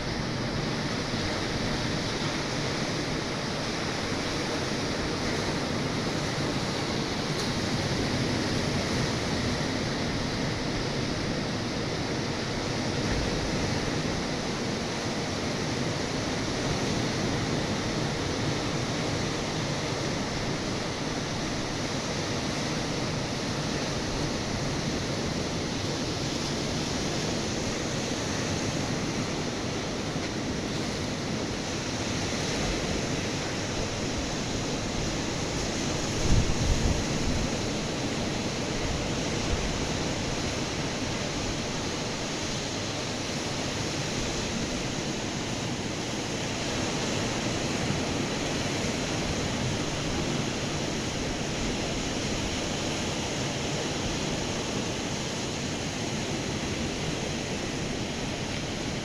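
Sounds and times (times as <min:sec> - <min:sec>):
ocean surf breaking on beach: 0:00.0 - 0:59.0.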